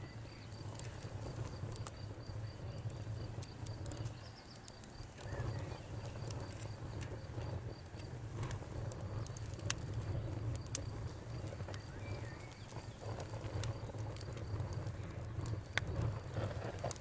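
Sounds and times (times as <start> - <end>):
campfire wood crackling: 0.0 - 17.0.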